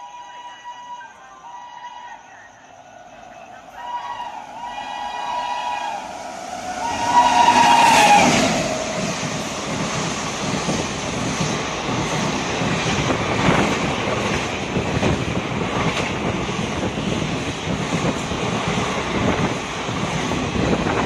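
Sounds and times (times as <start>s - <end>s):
passenger train rushing past: 0.0s - 21.0s.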